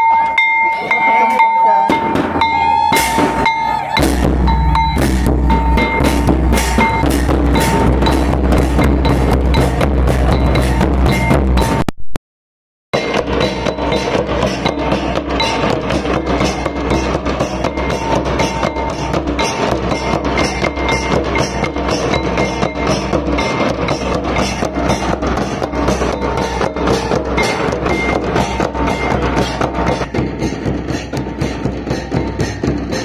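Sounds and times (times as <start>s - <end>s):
hand cymbals clashing: 0.0s - 11.7s, 13.0s - 33.0s
kettle drums struck with sticks: 0.0s - 11.8s, 13.0s - 33.0s
bass drums: 1.8s - 12.2s, 13.0s - 33.0s.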